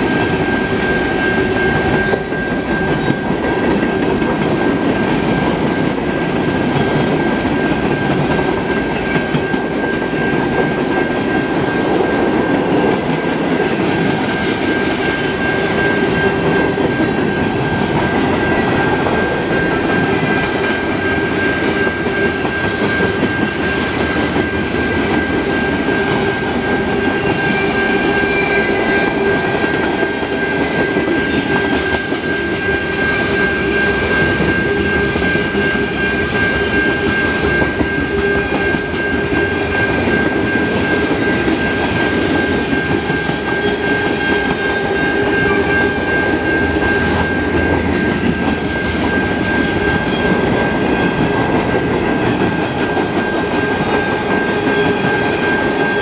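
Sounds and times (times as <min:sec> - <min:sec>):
high-pitched ringing tone: 0:00.0 - 0:56.0
train wheels rumbling and clacking: 0:00.0 - 0:56.0.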